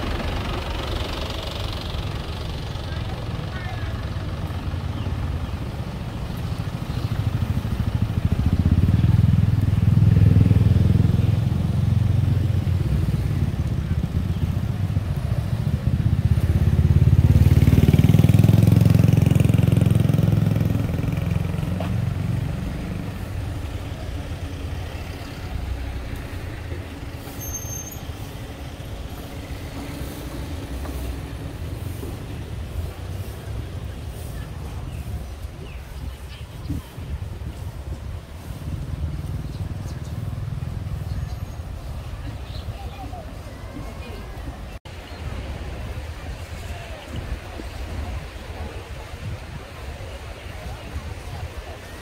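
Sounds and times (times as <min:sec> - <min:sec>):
cars passing by: 0:00.0 - 0:52.0
motorbike passing: 0:00.0 - 0:52.0.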